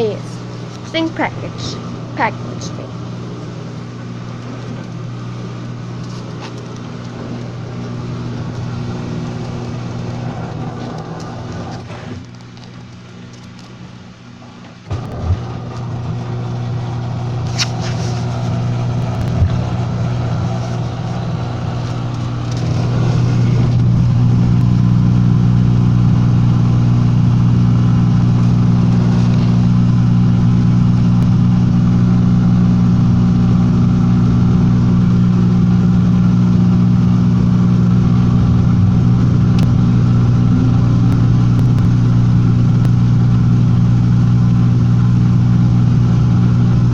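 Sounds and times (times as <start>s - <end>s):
washing machine motor hum: 0.0s - 46.9s.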